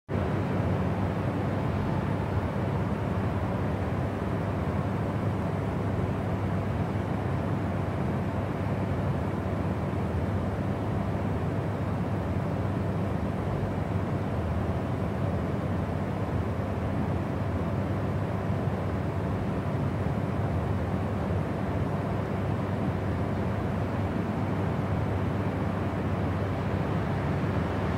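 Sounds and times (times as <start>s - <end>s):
jet airliner cabin noise: 0.2s - 27.9s.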